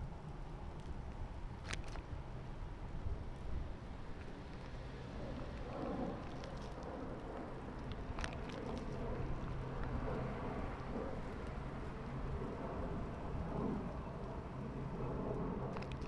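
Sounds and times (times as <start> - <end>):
bicycle tyre noise: 0.0 - 14.8
wind rumbling on microphone: 0.0 - 16.0.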